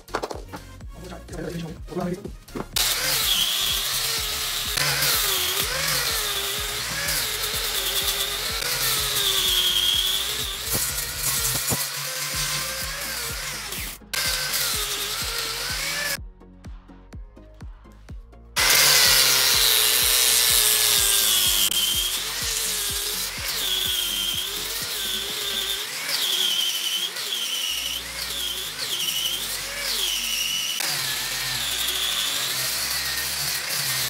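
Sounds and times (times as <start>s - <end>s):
faint background music: 0.0s - 34.0s
angle grinder sanding wood: 1.1s - 16.2s, 18.6s - 34.0s.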